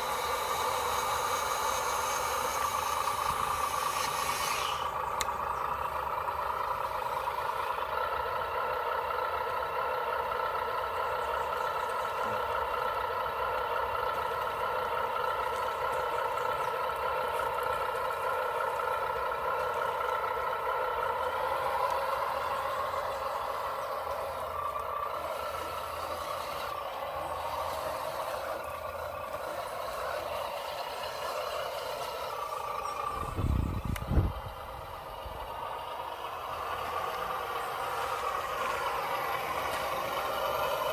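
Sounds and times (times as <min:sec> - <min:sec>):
toy truck motor drone: 0:00.0 - 0:40.9.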